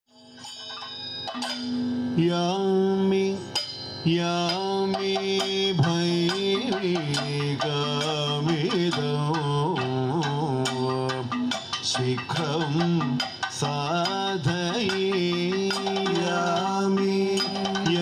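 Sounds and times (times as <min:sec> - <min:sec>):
sharp percussion strikes: 0:00.1 - 0:18.0
man singing long held notes: 0:02.2 - 0:18.0.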